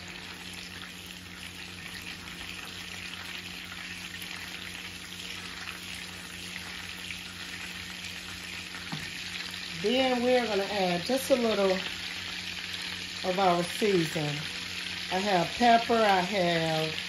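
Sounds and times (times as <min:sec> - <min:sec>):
butter and garlic sizzling in skillet: 0:00.0 - 0:17.0.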